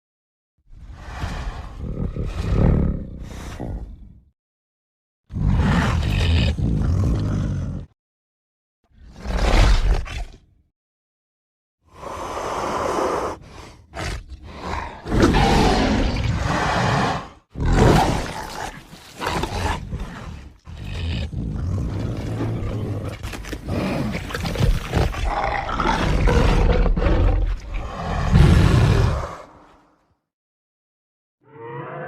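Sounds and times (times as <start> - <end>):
big cat roars and growls: 0.7 - 4.3, 5.3 - 8.0, 8.9 - 10.6, 11.9 - 30.0.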